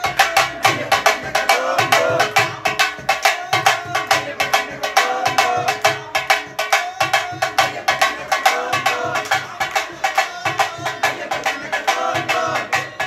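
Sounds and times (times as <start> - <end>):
sharp percussion beat: 0.0 - 13.0.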